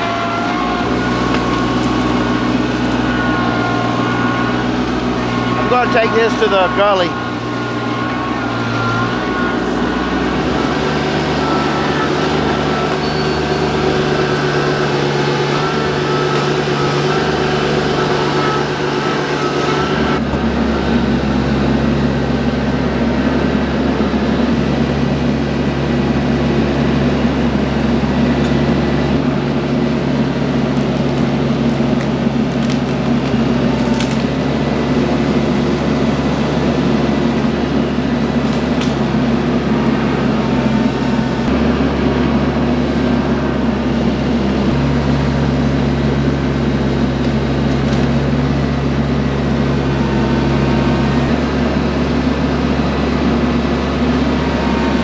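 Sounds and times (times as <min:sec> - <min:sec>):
tractor engine running: 0:00.0 - 0:55.0
wavering hydraulic whine: 0:00.0 - 0:55.0.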